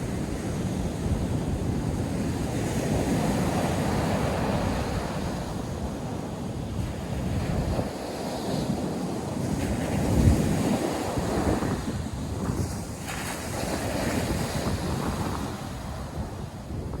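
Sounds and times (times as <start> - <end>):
waves washing onto shore: 0.0 - 17.0
wind buffeting microphone: 0.0 - 17.0.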